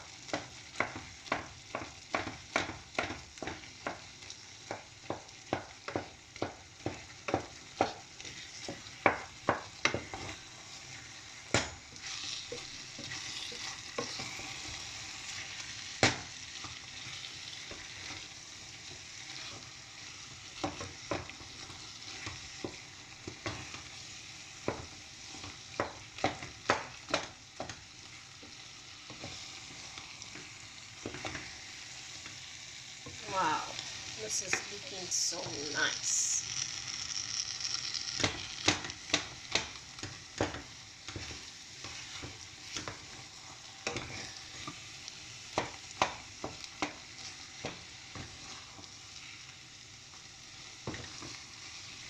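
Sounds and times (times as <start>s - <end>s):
pot sizzling: 0.0s - 52.0s
spoon mashing in a pot: 0.2s - 31.6s, 38.2s - 48.6s.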